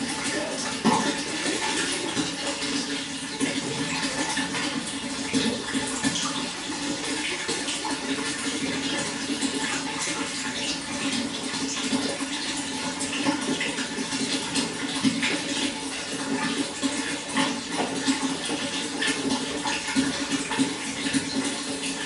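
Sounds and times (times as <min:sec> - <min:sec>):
running water flowing: 0:00.0 - 0:22.0.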